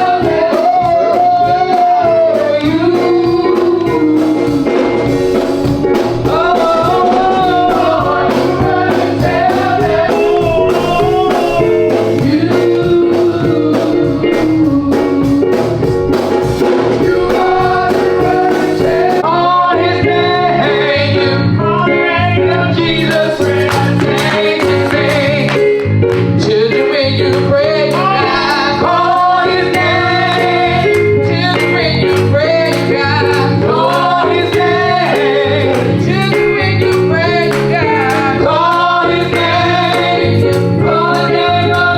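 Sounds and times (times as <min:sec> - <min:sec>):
gospel music with singing: 0:00.0 - 0:41.9.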